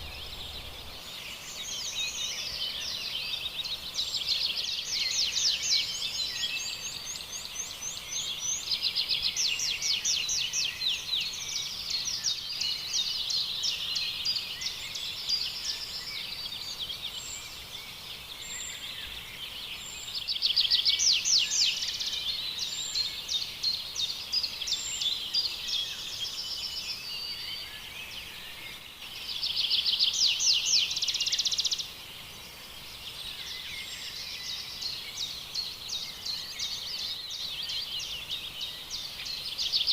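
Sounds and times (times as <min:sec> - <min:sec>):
small songbirds trilling and chirping: 0:00.0 - 0:39.9.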